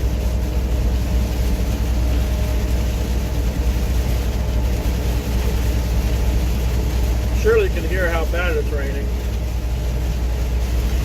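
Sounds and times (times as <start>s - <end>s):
heavy rain hissing: 0.0s - 11.0s
truck engine and road drone: 0.0s - 11.0s
tyres on wet road: 0.0s - 11.0s.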